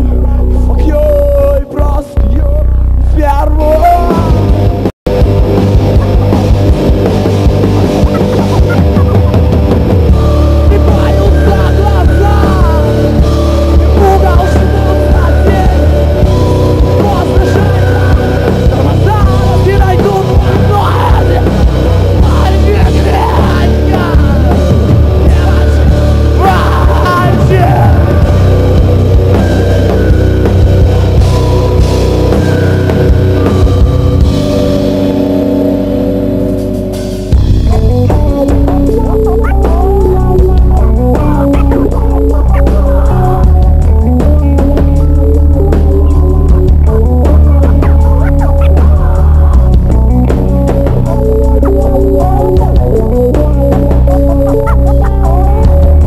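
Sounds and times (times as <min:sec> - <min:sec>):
live heavy rock band: 0:00.0 - 0:56.0.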